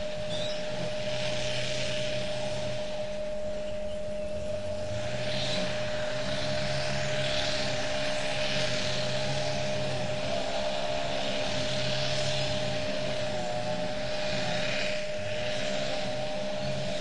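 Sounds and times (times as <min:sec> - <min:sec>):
mid-pitched hum: 0:00.0 - 0:17.0.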